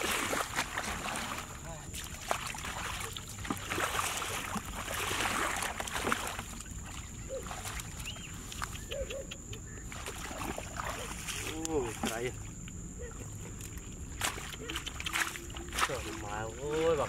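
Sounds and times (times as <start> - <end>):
bucket scooping water: 0.0 - 9.0, 9.6 - 17.0
water splashing and sloshing: 0.0 - 17.0.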